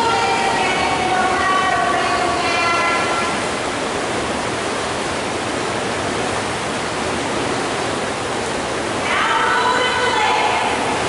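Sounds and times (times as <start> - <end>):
water churning from paddling: 0.0 - 11.0.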